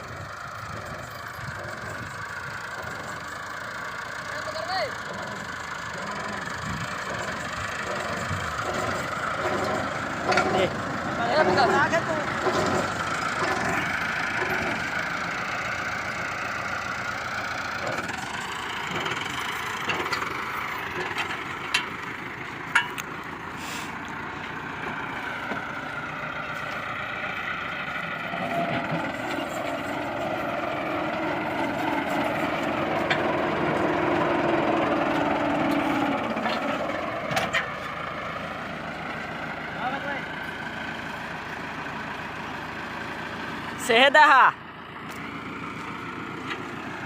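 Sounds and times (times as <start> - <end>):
heavy machine engine: 0.0 - 47.0.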